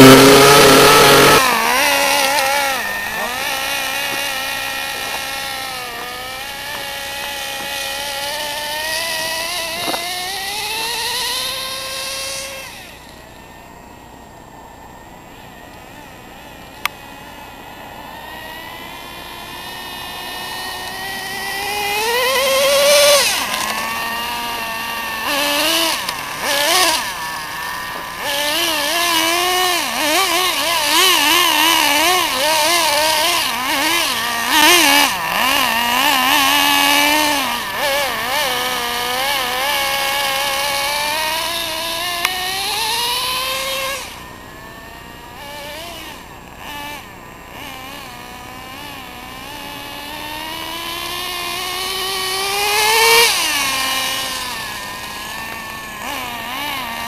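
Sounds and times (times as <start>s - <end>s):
rc buggy engine revving: 0.0s - 57.0s.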